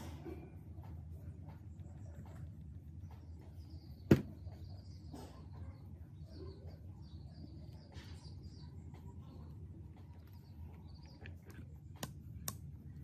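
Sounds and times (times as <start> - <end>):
low steady hum: 0.0 - 13.0
faint bird chirps: 0.1 - 11.8.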